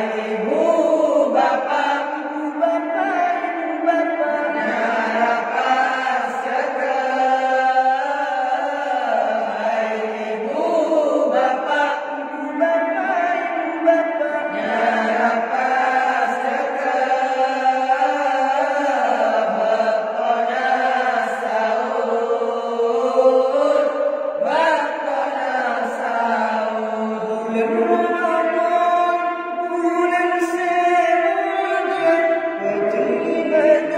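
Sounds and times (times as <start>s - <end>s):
man chanting devotional song: 0.0s - 33.9s.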